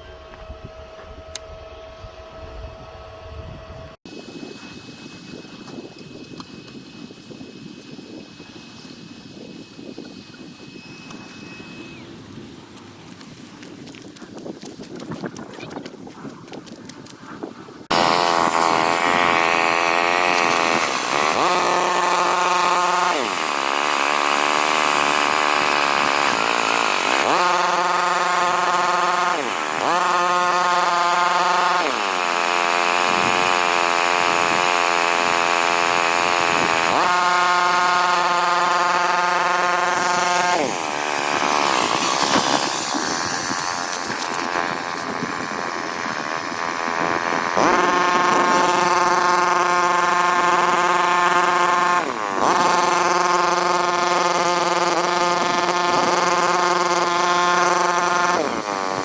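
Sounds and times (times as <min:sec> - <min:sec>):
small electric motor whining: 0:00.0 - 0:15.4, 0:16.6 - 0:59.0.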